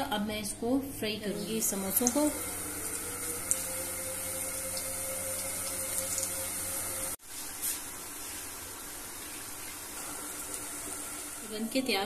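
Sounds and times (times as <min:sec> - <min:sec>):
food deep-frying in oil: 0:01.4 - 0:12.0.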